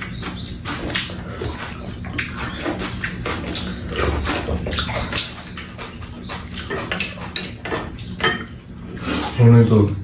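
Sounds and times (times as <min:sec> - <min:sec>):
utensils clicking on bowls: 0:00.0 - 0:09.1
slurping and chewing: 0:00.0 - 0:09.4.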